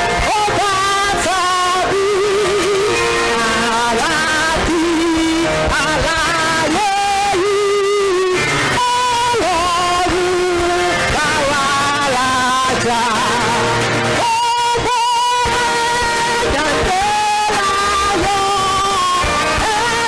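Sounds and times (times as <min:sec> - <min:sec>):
instrumental accompaniment: 0:00.0 - 0:20.0.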